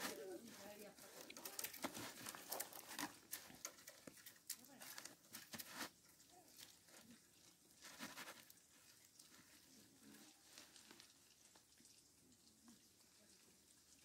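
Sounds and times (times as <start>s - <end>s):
cane strips rustling and scraping: 0.0s - 11.5s.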